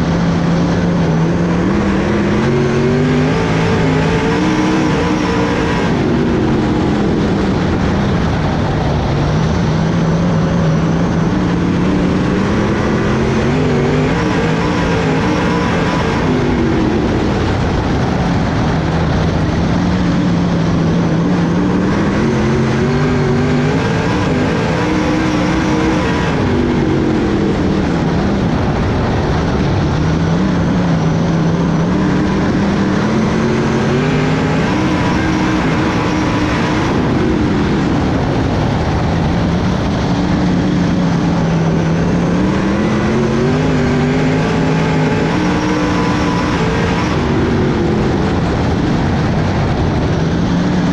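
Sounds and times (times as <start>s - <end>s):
race car engine running hard: 0.0s - 50.9s.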